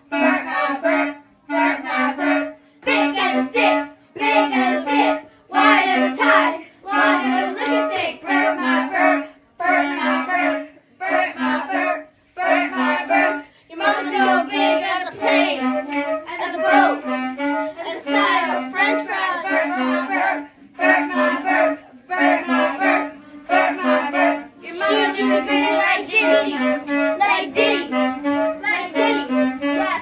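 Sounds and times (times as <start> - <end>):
high voice singing: 0.0 - 30.0.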